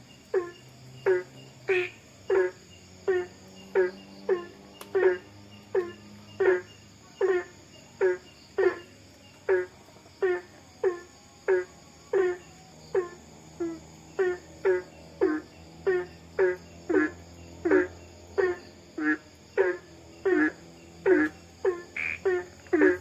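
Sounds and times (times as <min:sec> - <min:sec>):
high insect chirring: 0:00.0 - 0:23.0.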